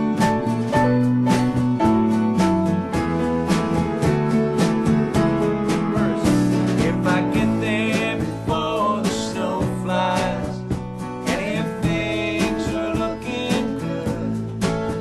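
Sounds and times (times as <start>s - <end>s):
country music on acoustic guitar: 0.0s - 15.0s.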